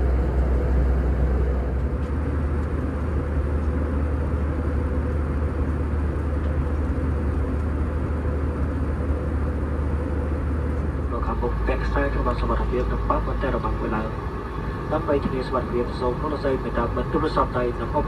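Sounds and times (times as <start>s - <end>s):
airplane cabin engine and airflow: 0.0s - 18.0s.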